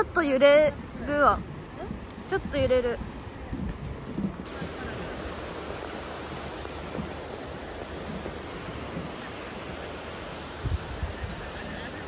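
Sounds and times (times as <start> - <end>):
distant river: 0.0 - 12.0
wind buffeting microphone: 0.0 - 12.0
wind rushing: 0.8 - 12.0.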